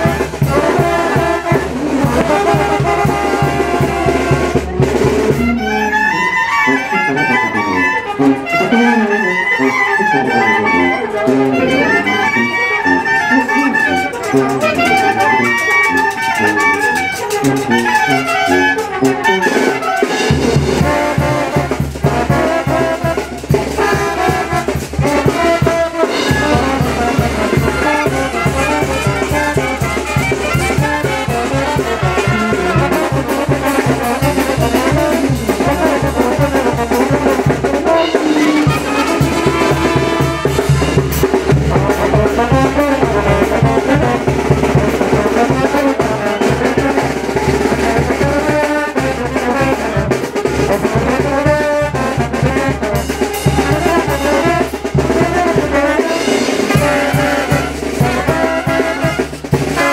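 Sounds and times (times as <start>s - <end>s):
brass band music: 0.0s - 59.9s.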